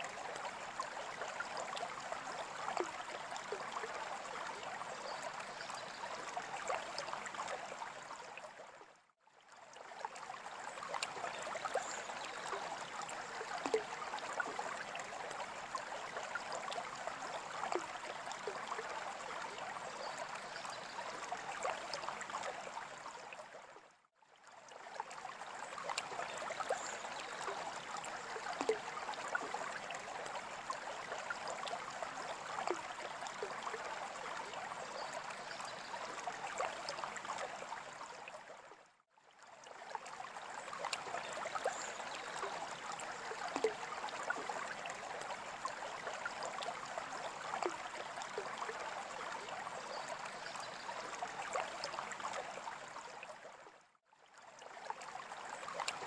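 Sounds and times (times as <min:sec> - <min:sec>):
water trickling and bubbling: 0:00.0 - 0:56.0.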